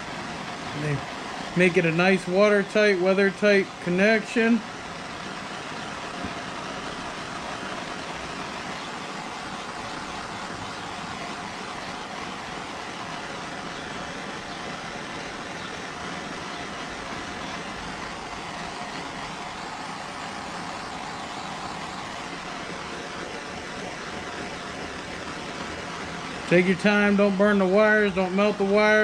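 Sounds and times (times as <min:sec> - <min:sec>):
torch flame hissing: 0:00.0 - 0:29.0.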